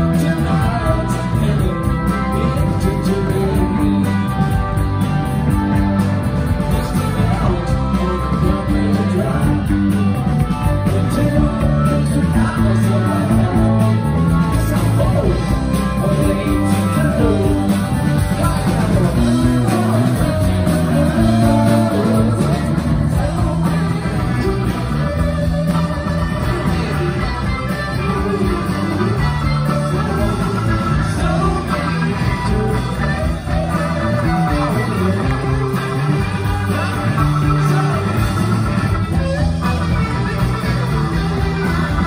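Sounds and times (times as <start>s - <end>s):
lead vocal singing: 0.0s - 4.9s, 6.7s - 38.7s
live rock band playing: 0.0s - 42.0s.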